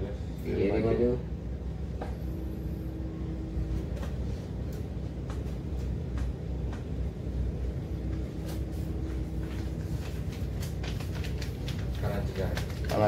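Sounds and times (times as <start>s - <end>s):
ship engines droning: 0.0s - 10.9s.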